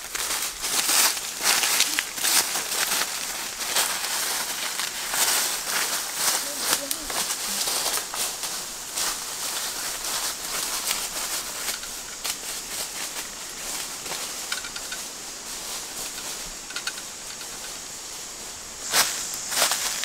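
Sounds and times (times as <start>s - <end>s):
footsteps crunching dry leaves: 0.0s - 20.0s.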